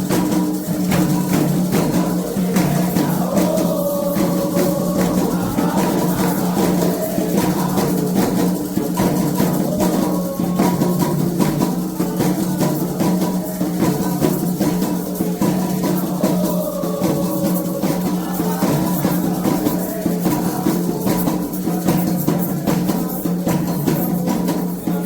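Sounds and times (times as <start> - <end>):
hand drums and percussion: 0.0 - 25.0
voices singing a chant: 0.0 - 25.0.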